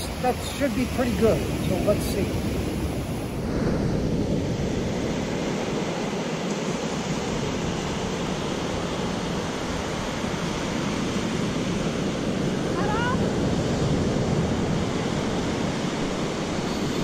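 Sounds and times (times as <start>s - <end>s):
ocean surf washing ashore: 0.0s - 17.0s
wind rumbling on microphone: 0.0s - 17.0s.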